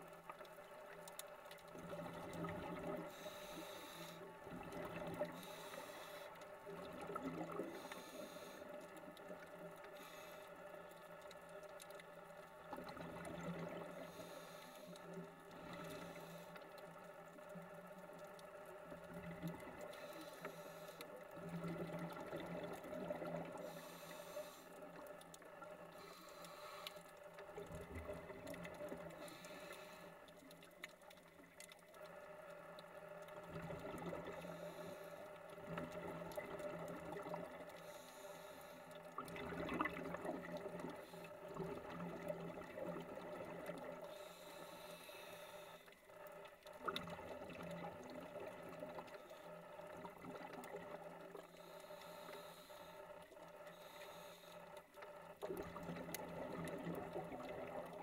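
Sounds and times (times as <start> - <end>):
low underwater hum: 0.0 - 58.0
scuba exhaust bubbles: 0.0 - 58.0.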